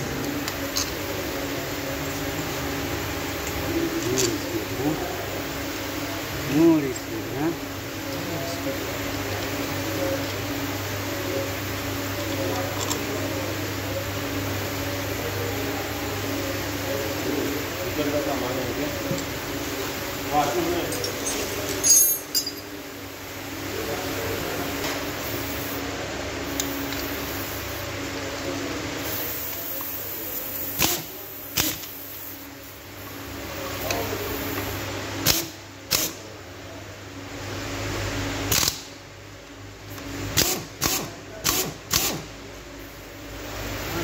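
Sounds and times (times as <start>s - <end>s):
mechanical hum: 0.0s - 44.0s.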